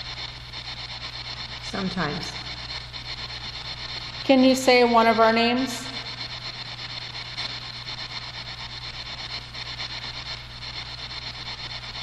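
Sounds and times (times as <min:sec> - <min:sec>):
low steady hum: 0:00.0 - 0:12.0
pulsing radio static hiss: 0:00.0 - 0:12.0.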